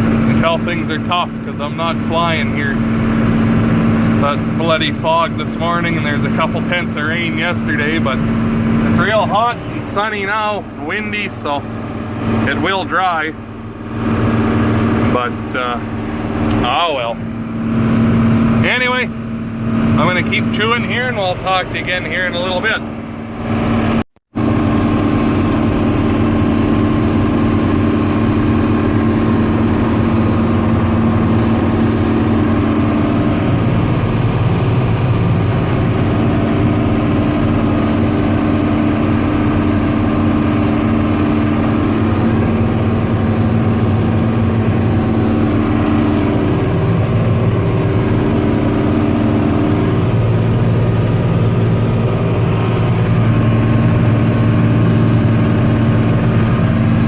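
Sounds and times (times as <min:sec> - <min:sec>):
combine harvester threshing drone: 0:00.0 - 0:57.0.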